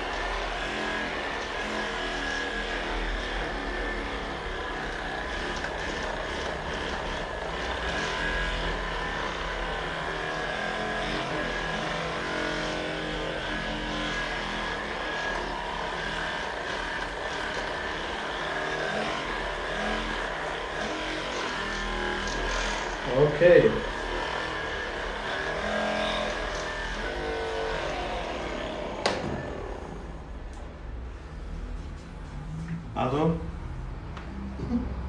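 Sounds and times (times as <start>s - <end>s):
mechanical motor hum: 0.0s - 35.0s.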